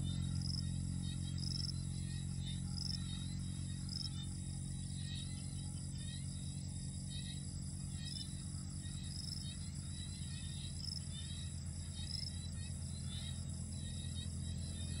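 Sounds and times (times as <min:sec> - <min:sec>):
constant low hum: 0:00.0 - 0:15.0
insects chirping: 0:00.0 - 0:15.0.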